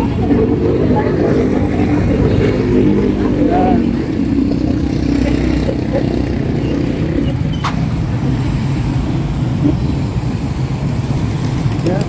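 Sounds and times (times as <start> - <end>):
motorbike engines humming: 0.0 - 12.0.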